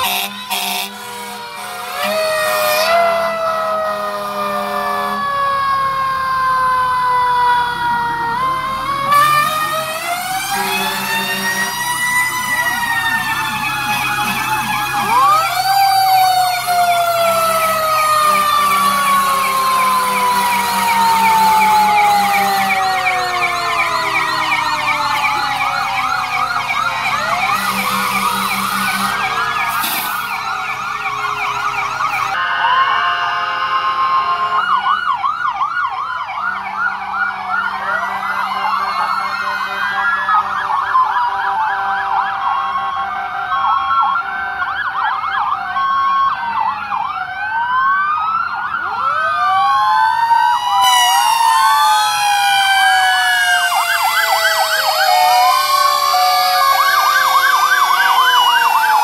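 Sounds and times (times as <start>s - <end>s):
fire truck sirens wailing: 0.0s - 59.0s.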